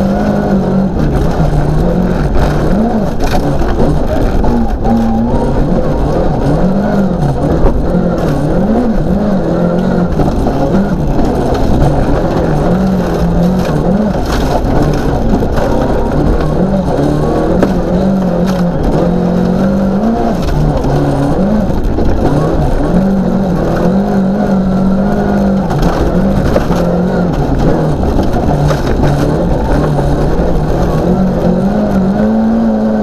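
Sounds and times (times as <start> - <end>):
rally car engine revving: 0.0 - 33.0
tyres rumbling on gravel: 0.0 - 33.0.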